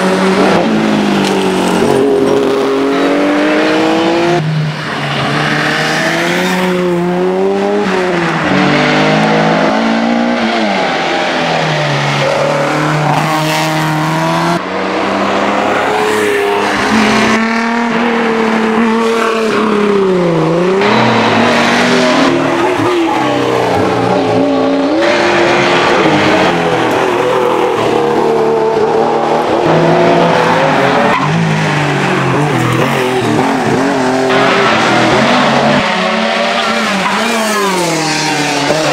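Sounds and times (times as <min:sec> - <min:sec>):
rally car engines revving hard: 0:00.0 - 0:38.9.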